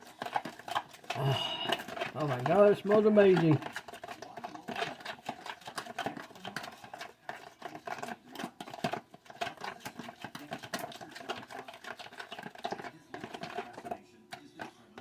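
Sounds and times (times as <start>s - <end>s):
spoon clicking and scraping bowl: 0.0s - 15.0s
spoon stirring thick sauce: 0.0s - 15.0s.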